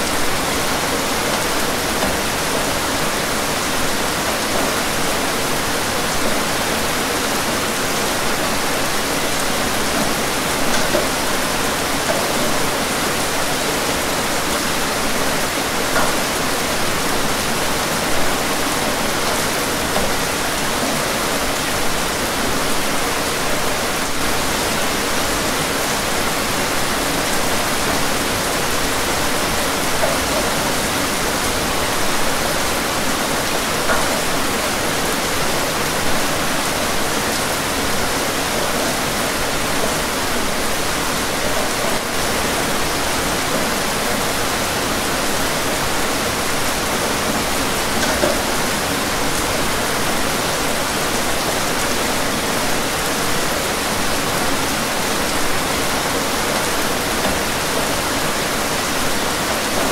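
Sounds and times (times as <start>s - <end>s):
rain falling steadily: 0.0s - 59.9s
raindrops: 0.0s - 59.9s.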